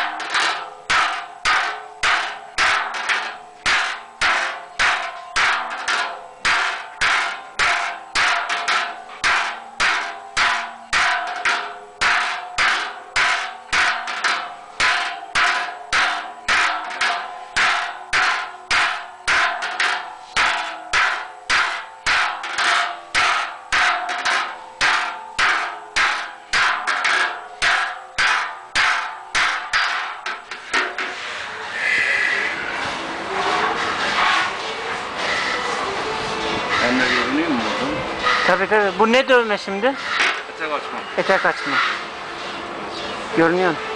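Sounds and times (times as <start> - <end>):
hammer striking sheet-metal cauldron: 0.0 - 31.8, 32.4 - 42.2.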